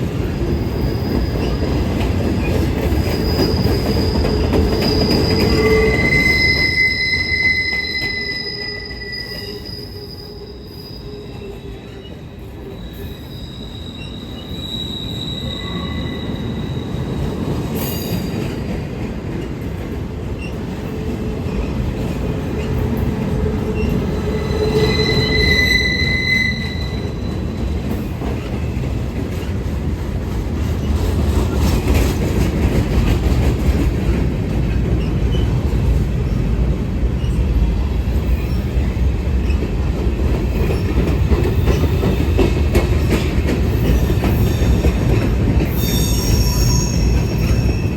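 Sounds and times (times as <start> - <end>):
train rumbling on rails: 0.0 - 47.9
train wheels squealing: 0.2 - 18.8, 20.4 - 29.6, 34.7 - 36.5, 37.1 - 47.9.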